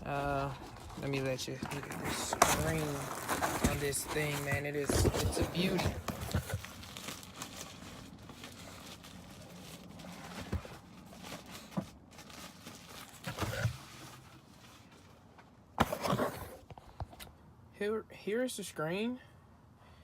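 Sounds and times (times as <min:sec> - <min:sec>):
handling rustling: 0:00.2 - 0:17.1.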